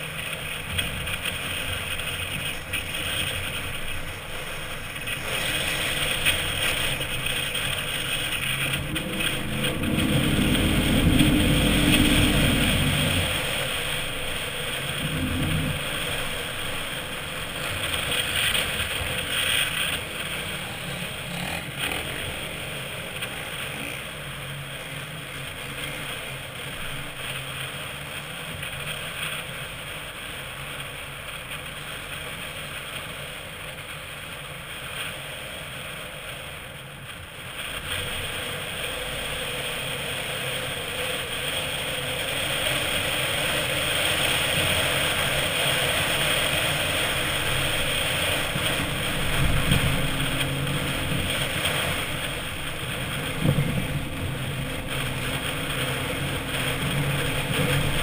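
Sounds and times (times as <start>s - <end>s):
truck engine working hard: 0.0s - 31.8s, 36.9s - 58.0s.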